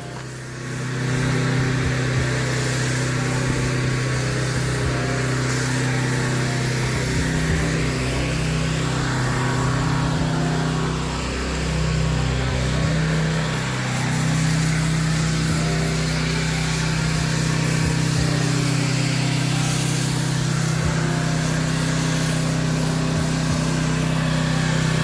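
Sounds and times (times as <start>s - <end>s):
pressure washer engine running: 0.0s - 25.0s
water spraying hiss: 0.0s - 25.0s.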